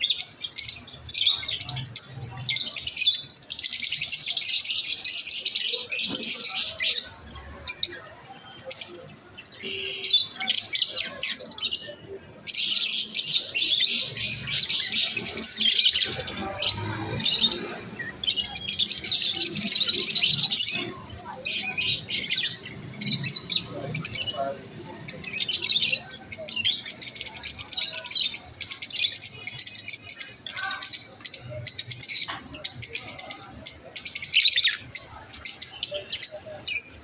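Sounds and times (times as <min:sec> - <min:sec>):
birds chirping shrilly: 0:00.0 - 0:37.0.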